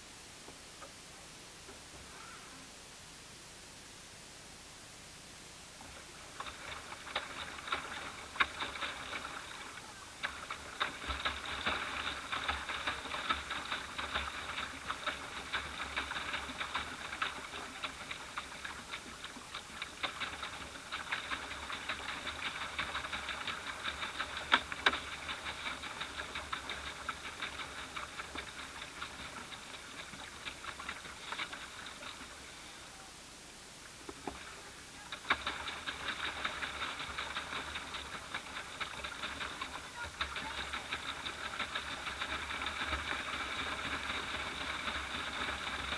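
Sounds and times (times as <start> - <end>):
small waves lapping against boat hull: 5.8 - 33.2, 33.8 - 45.9.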